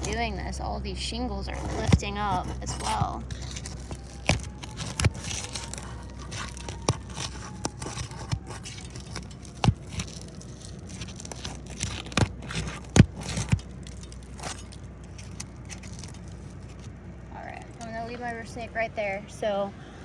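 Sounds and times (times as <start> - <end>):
metal tool scraping shingles: 0.0 - 0.6, 1.3 - 18.0
shingle sealant cracking: 0.0 - 0.6, 1.4 - 18.6.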